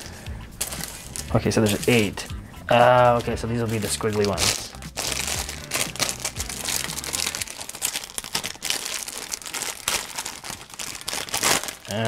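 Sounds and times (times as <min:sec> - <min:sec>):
paper packet crinkling: 0:00.6 - 0:02.2, 0:02.8 - 0:12.0.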